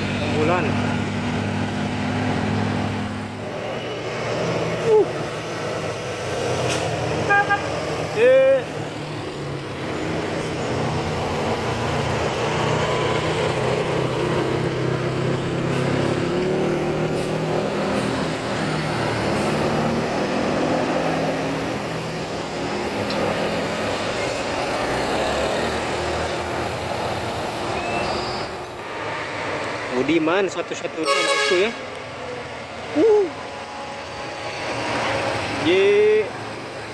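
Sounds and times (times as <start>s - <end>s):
diesel bus engine passing: 0.0s - 36.9s
tyre and road noise: 0.0s - 36.9s.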